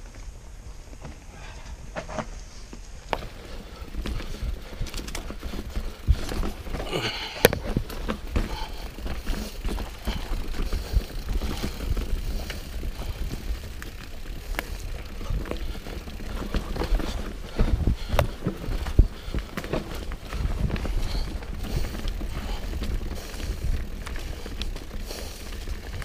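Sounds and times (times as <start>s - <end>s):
mountain bike rattling: 0.0s - 26.0s.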